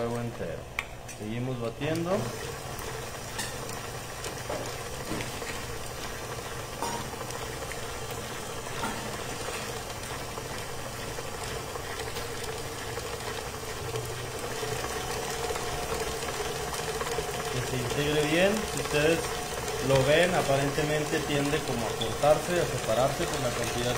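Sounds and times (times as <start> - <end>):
stand mixer running: 0.0 - 23.9.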